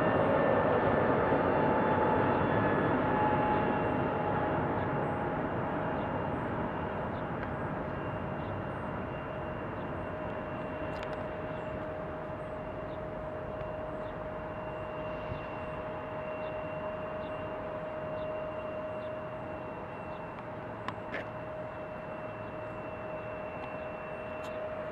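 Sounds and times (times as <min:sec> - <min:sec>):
high jet engine whine: 0:00.0 - 0:24.9
jet airliner engines roaring: 0:00.0 - 0:24.9.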